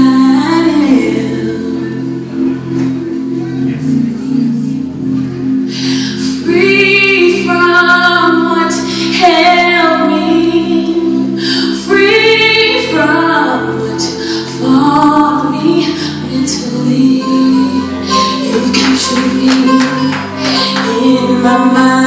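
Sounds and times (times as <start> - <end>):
woman singing gospel: 0.0 - 1.8, 5.8 - 22.0
low pulsing accompaniment: 0.0 - 22.0.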